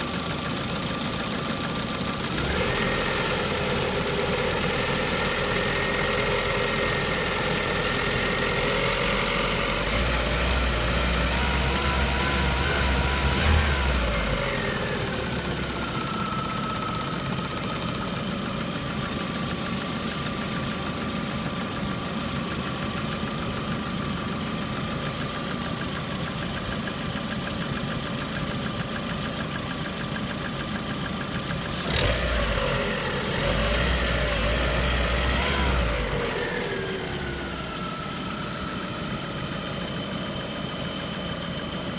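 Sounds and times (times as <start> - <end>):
car engine running with knock: 0.0 - 41.9.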